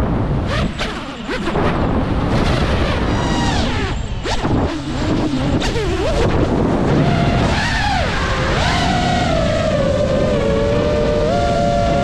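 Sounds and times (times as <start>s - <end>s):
drone motors whining: 0.4s - 12.0s.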